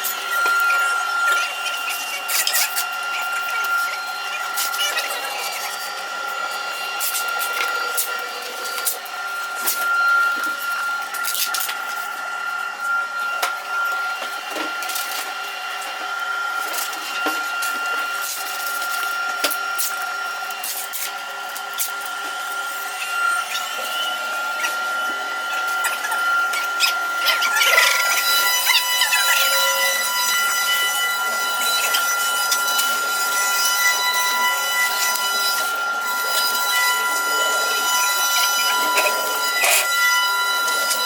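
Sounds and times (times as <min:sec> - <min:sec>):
workshop machine whining: 0:00.0 - 0:41.0.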